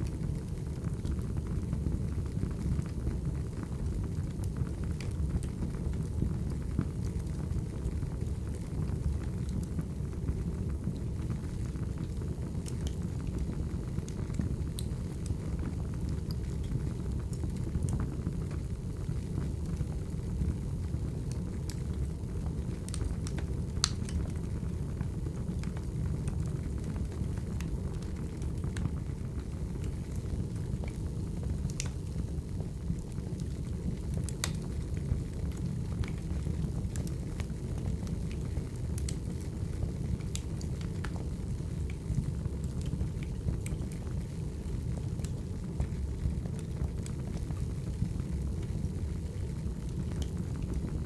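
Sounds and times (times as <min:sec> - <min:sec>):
wood fire rumbling: 0:00.0 - 0:51.0
logs crackling and popping: 0:04.0 - 0:20.4, 0:21.0 - 0:51.0.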